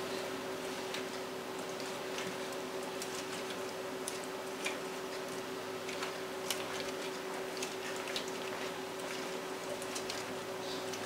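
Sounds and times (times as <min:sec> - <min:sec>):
steady low hum: 0:00.0 - 0:11.0
food squishing in a bowl: 0:00.6 - 0:11.0.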